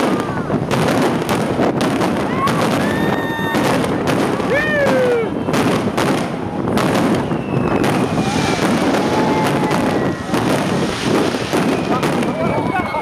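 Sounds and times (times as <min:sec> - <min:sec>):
fireworks bangs: 0:00.0 - 0:13.0
fireworks crackling: 0:00.0 - 0:13.0
falling firework whistles: 0:02.4 - 0:13.0.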